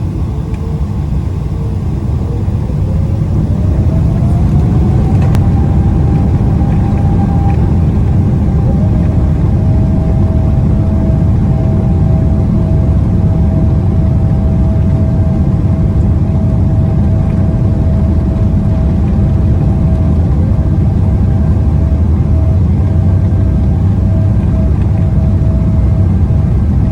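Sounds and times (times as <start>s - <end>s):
jet engine rumble and whine: 0.0s - 26.9s.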